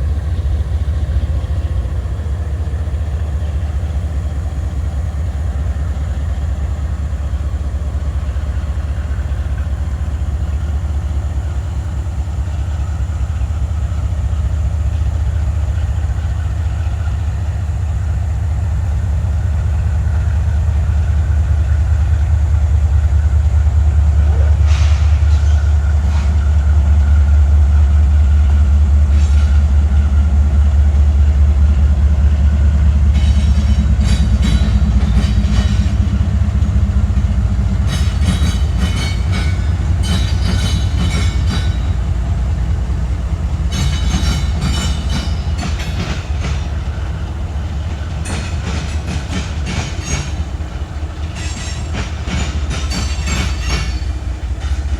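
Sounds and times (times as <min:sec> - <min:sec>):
locomotive engine rumble: 0:00.0 - 0:54.9
train wheels clacking on rail joints: 0:00.0 - 0:54.9.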